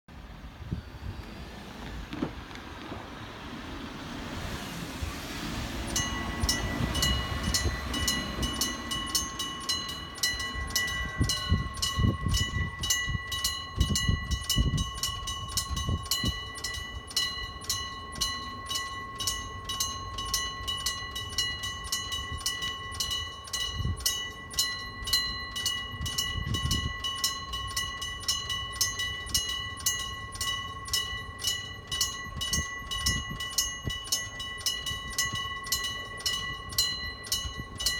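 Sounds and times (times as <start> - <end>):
train low rumble: 0.1 - 37.9
electric crossing bell ringing: 4.0 - 37.9.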